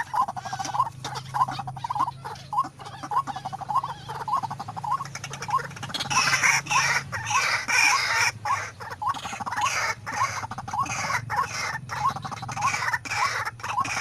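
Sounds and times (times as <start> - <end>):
harsh croaking bird calls: 0.0 - 14.0.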